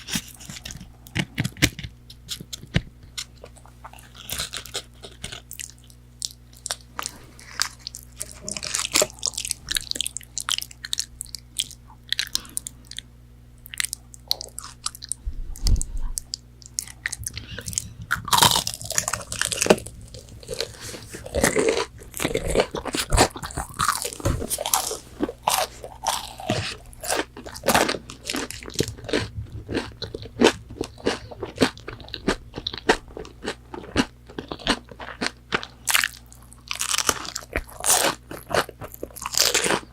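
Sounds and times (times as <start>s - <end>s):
crunching and chewing crispy food: 0.0s - 39.9s.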